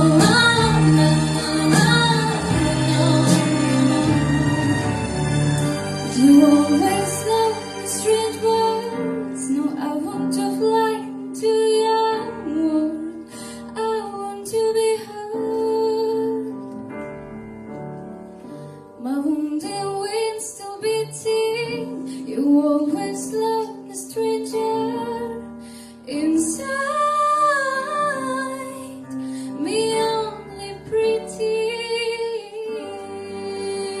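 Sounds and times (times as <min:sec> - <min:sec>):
slow piano ballad: 0:00.0 - 0:34.0.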